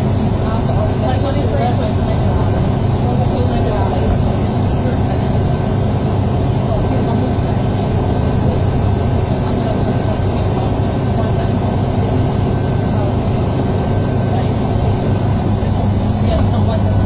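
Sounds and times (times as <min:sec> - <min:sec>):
bus diesel engine drone: 0:00.0 - 0:17.0
faint steady whine: 0:00.0 - 0:17.0.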